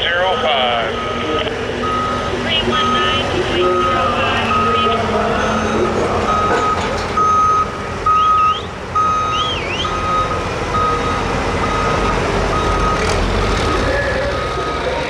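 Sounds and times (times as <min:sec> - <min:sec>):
diesel engine running: 0:00.0 - 0:15.0
reversing alarm beeping: 0:00.0 - 0:15.0.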